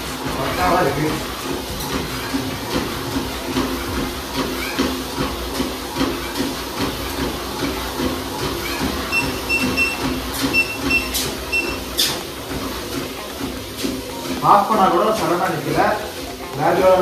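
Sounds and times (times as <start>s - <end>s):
bare footsteps on treadmill belt: 0.0s - 17.0s
treadmill motor humming: 0.0s - 17.0s.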